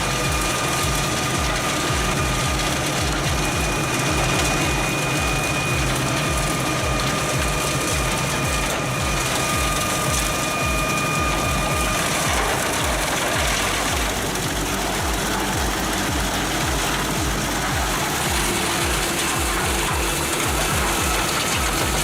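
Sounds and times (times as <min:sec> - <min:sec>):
diesel machinery running: 0:00.0 - 0:22.0.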